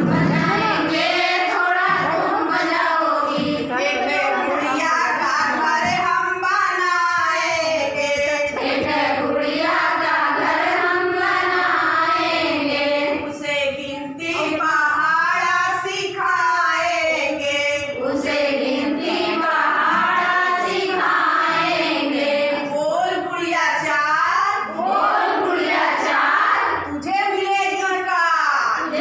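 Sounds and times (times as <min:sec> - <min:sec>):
women singing together: 0:00.0 - 0:29.0.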